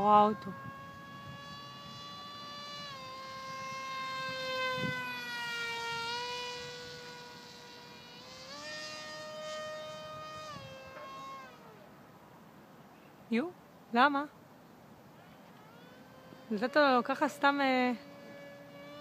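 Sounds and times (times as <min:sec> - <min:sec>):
electric motor and propeller whining: 0:00.0 - 0:12.7, 0:14.9 - 0:19.0.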